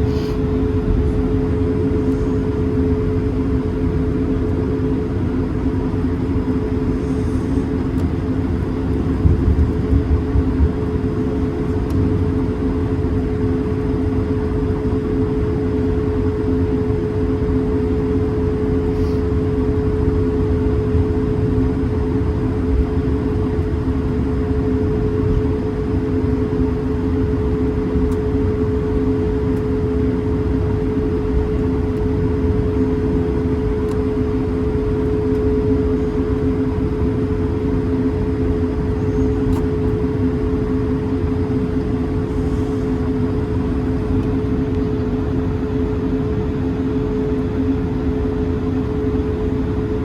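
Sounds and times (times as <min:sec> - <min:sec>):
low engine rumble: 0:00.0 - 0:15.6, 0:16.3 - 0:48.0
aircraft cabin hum: 0:00.0 - 0:50.0.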